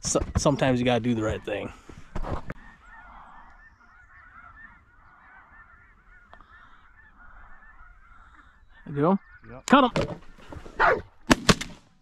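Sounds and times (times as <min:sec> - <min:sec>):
geese honking: 0:01.0 - 0:11.0.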